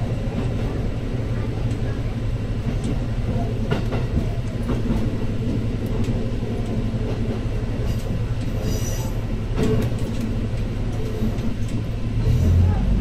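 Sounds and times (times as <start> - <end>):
railcar engine drone: 0.0 - 13.0
wheels clicking over rail joints: 1.5 - 12.5.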